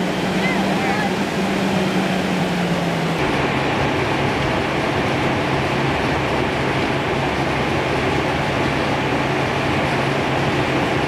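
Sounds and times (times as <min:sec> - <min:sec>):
fire engine running: 0:00.0 - 0:11.0.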